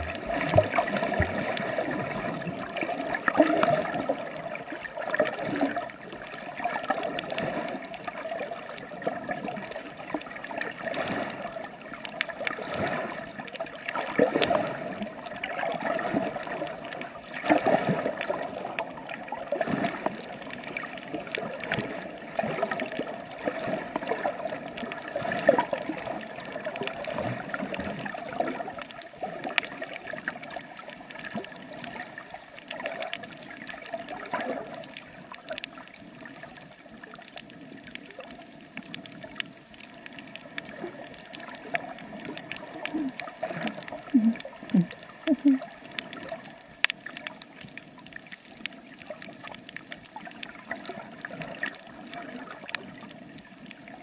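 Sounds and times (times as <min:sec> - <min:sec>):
small crackles: 0:00.0 - 0:54.0
water sloshing and gurgling: 0:00.0 - 0:54.0.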